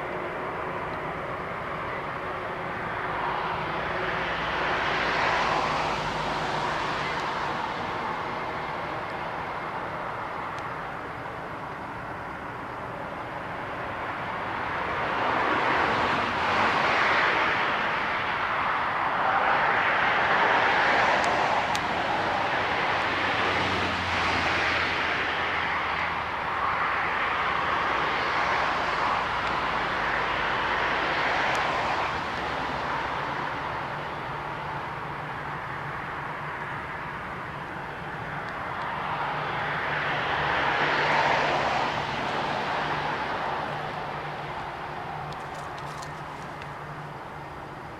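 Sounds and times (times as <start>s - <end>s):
aircraft engines roaring: 0.0s - 47.9s.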